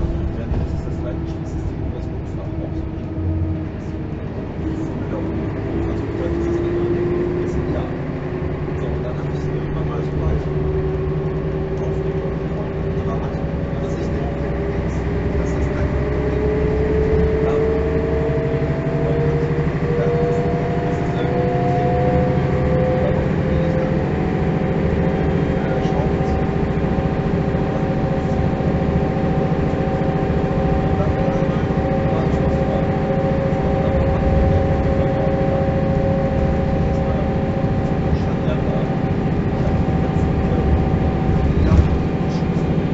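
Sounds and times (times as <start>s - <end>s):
bus diesel engine running: 0.0s - 42.9s
rising whine: 0.0s - 42.9s.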